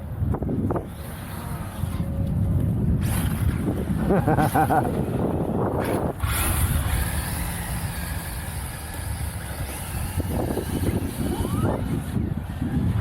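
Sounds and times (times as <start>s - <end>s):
wind rumbling on microphone: 0.0s - 13.0s
electric motor whining: 0.7s - 12.6s.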